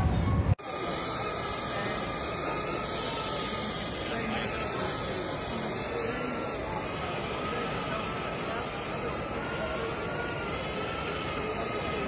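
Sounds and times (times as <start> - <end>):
faint drone whine: 0.0 - 12.0
drone propellers hissing: 0.6 - 12.0.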